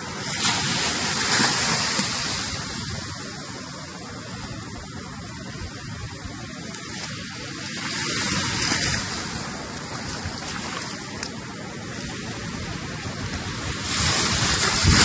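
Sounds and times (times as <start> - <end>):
waves washing in: 0.0 - 15.0
wind buffeting microphone: 0.0 - 15.0.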